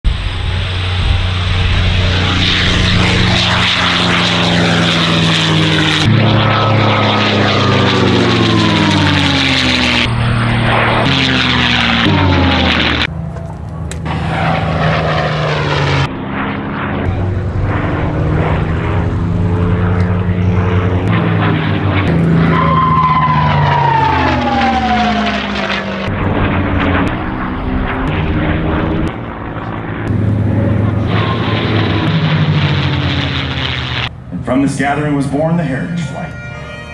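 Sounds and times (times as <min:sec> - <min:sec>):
high whine falling in pitch: 0:00.0 - 0:36.9
propeller plane engine passing low: 0:00.0 - 0:36.9.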